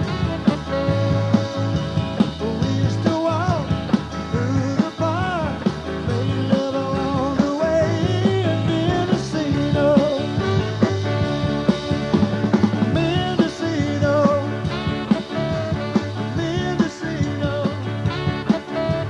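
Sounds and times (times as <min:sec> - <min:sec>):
drums beating: 0:00.0 - 0:19.0
live rock band playing: 0:00.0 - 0:19.0.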